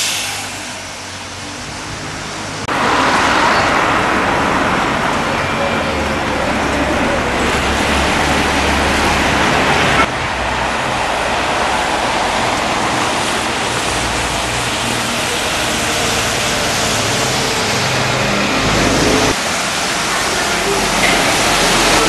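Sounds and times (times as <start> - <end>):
vehicle rushing noise: 0.0 - 22.0.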